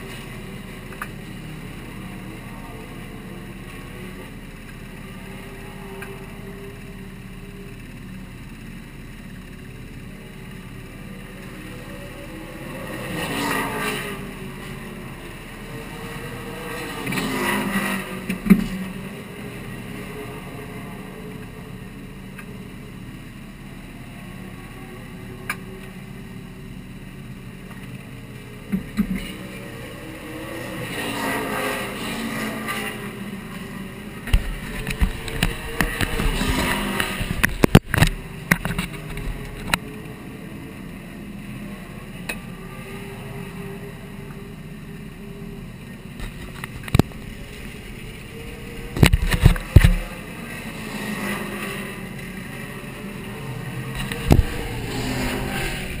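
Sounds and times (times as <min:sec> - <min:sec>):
race car engine revving: 0:09.6 - 0:26.8, 0:27.5 - 0:56.0.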